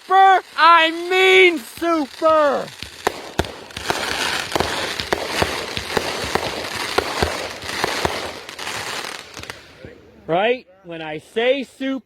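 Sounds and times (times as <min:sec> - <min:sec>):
sharp fireworks bangs: 0:00.0 - 0:10.0
fireworks crackling hiss: 0:00.0 - 0:10.1.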